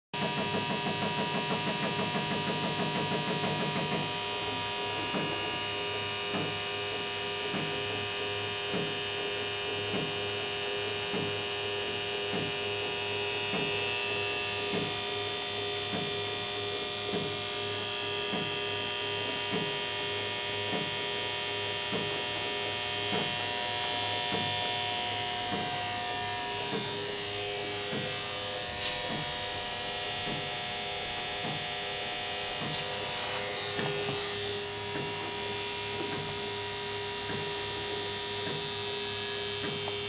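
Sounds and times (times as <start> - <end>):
steady electrical hum: 0.3 - 40.0.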